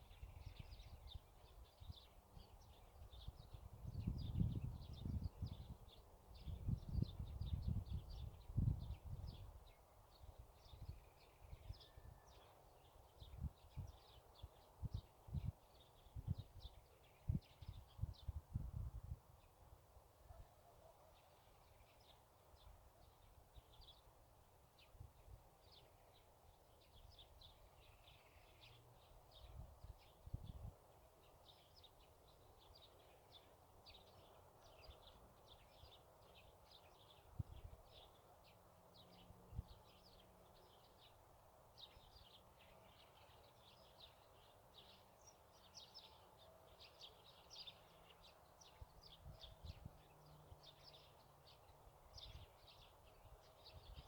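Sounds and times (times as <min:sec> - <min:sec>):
small birds chirping: 0:00.0 - 0:19.6, 0:20.2 - 0:54.0.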